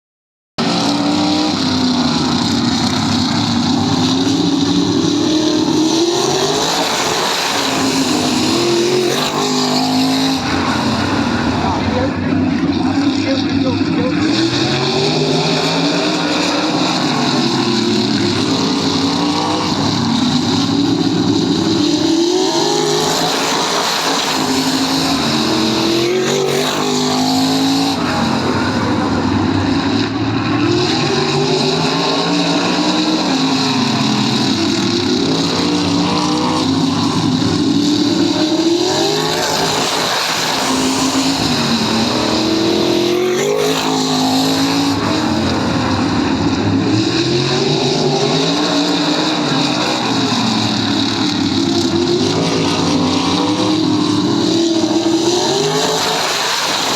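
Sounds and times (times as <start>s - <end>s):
race car engines revving: 0.6s - 56.9s.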